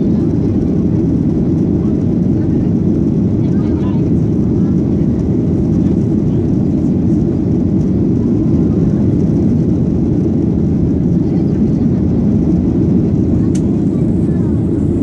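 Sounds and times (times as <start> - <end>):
aircraft cabin roar: 0.0 - 15.0.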